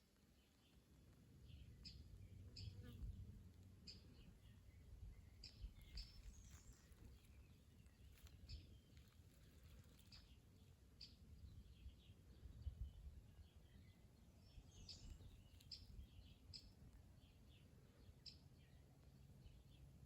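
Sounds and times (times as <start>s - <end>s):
birds chirping: 3.8s - 19.9s.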